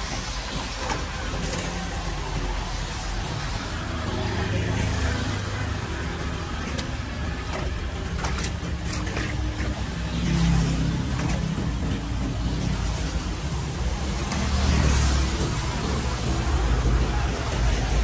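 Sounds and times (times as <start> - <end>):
tool scraping in drain: 0.0 - 18.0
vehicle engine rumbling: 0.0 - 18.0.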